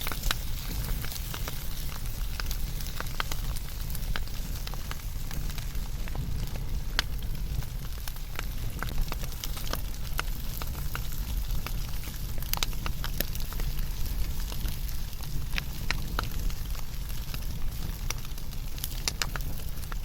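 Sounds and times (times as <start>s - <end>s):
burning wood crackles and pops: 0.0s - 20.0s
low rumble of flames: 0.0s - 20.0s.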